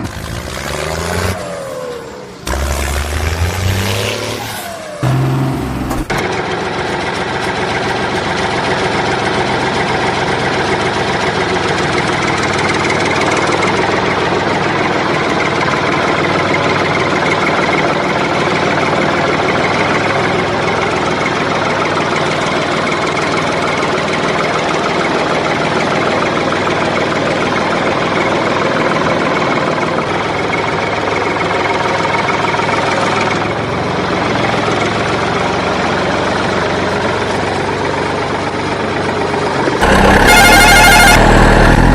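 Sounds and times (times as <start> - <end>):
engine idling: 4.6 - 41.9.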